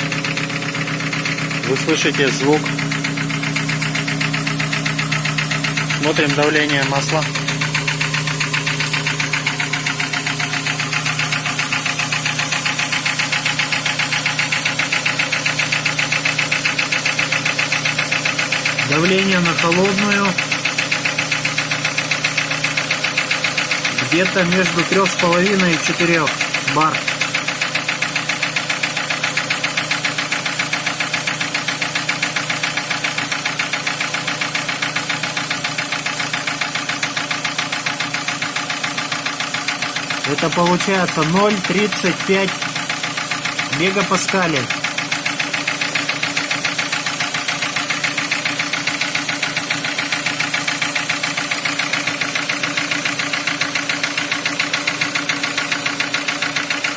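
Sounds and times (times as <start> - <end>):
car engine idling with knocking tick: 0.0 - 56.9.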